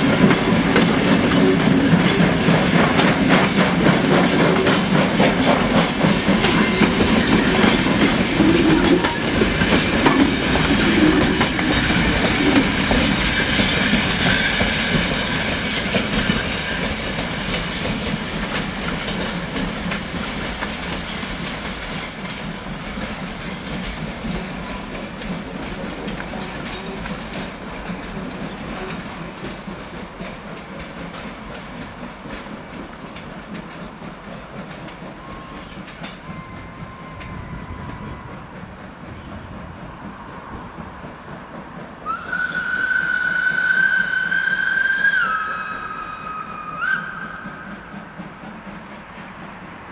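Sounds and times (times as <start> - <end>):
train wheels clattering over rail joints: 0.0 - 49.9.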